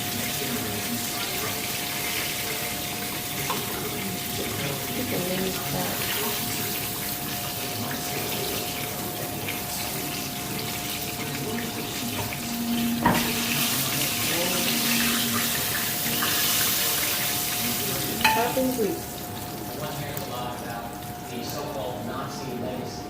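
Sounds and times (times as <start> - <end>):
chicken frying in oil: 0.0 - 23.0.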